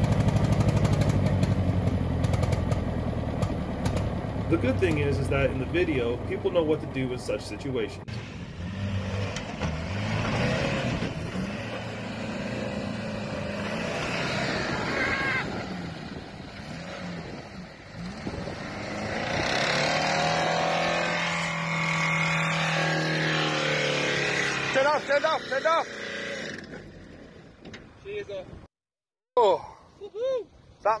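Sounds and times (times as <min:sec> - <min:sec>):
diesel engine at high revs: 0:00.0 - 0:27.4.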